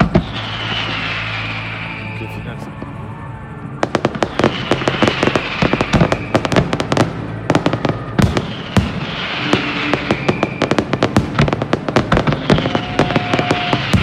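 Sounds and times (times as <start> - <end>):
heavy firework bangs: 0.0 - 2.6, 3.8 - 14.0
fireworks bangs and crackles: 0.0 - 14.0.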